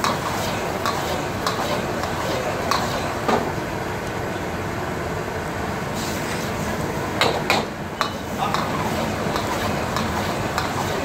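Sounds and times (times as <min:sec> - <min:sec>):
busy food stall background noise: 0:00.0 - 0:11.0.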